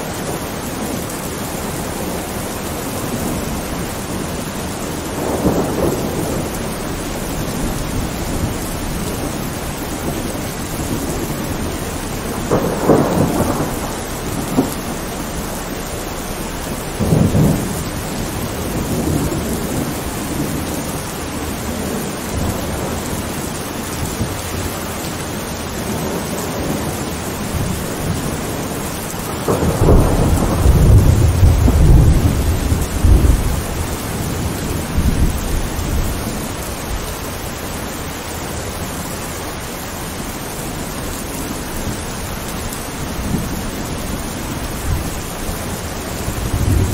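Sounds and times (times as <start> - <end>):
rumble of thunder: 0.0 - 37.5, 40.5 - 46.9
thunderclaps: 0.0 - 37.5, 40.6 - 46.9
steady rain: 0.0 - 46.9.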